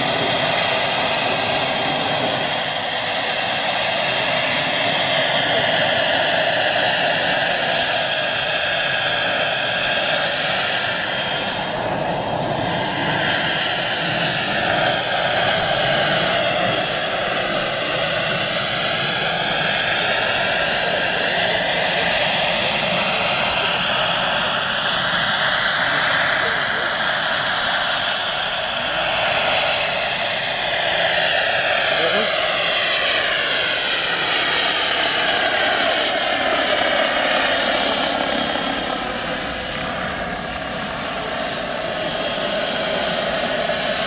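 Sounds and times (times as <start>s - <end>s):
helicopter rotor noise: 0.0s - 44.0s
model helicopter turbine whine: 0.0s - 44.0s.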